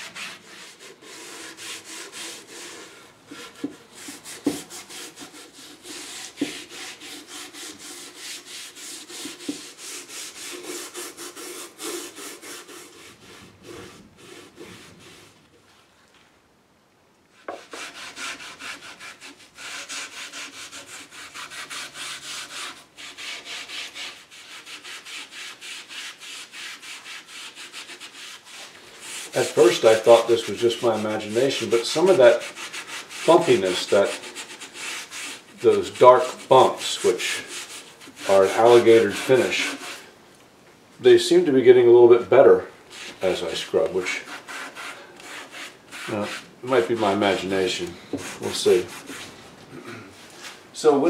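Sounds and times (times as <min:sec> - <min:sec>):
pad scrubbing wood: 0:00.0 - 0:15.4, 0:17.4 - 0:40.1, 0:42.9 - 0:49.4.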